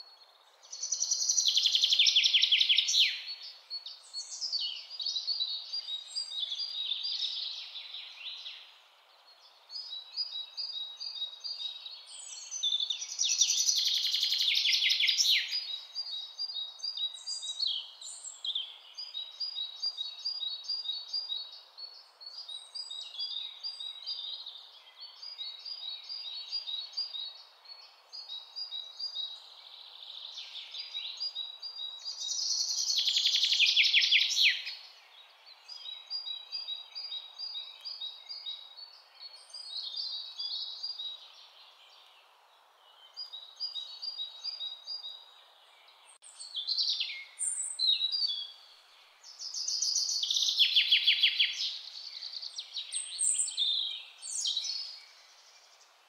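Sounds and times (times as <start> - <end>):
faint steady hiss: 0.0 - 56.0
birds chirping and singing: 0.7 - 42.2, 42.9 - 55.9.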